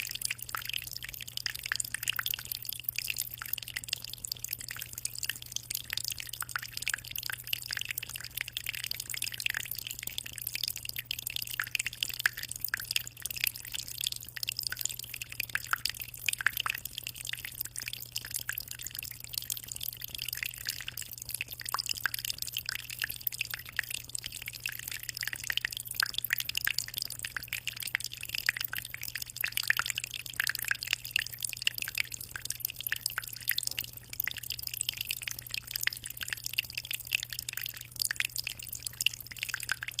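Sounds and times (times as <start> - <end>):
water trickling in aquarium: 0.0 - 40.0.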